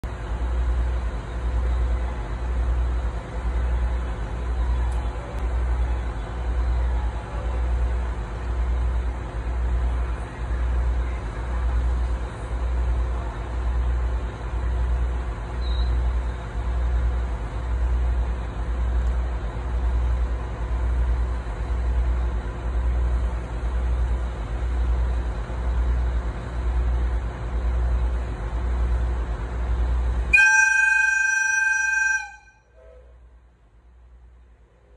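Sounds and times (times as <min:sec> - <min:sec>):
diesel train engine idling: 0:00.0 - 0:34.9.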